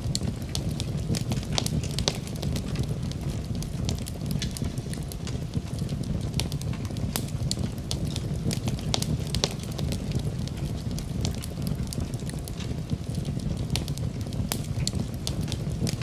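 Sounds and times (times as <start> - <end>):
burning wood crackling: 0.0 - 16.0
fire flames rumbling: 0.0 - 16.0.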